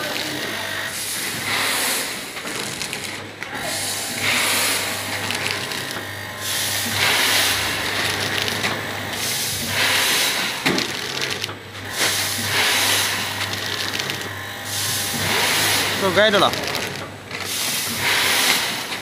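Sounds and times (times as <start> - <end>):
machine hissing rush: 0.0 - 19.0
packing machine motor hum: 0.0 - 19.0.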